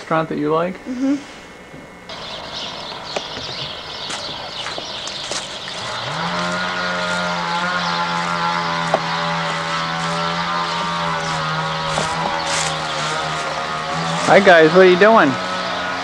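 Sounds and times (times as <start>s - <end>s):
motor droning: 0.9s - 16.0s.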